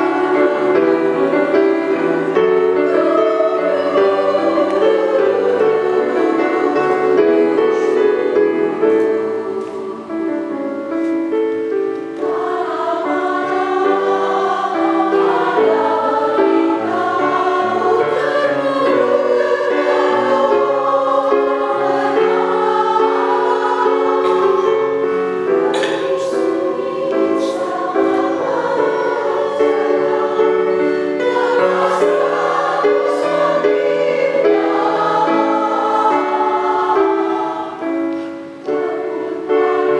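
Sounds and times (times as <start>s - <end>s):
women's choir singing chords: 0.0s - 39.9s.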